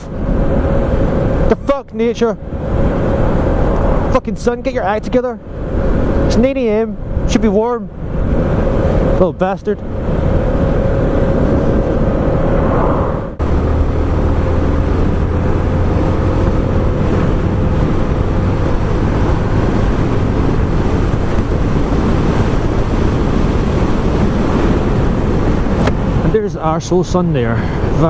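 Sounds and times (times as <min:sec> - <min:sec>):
wind over microphone: 0:00.0 - 0:28.0.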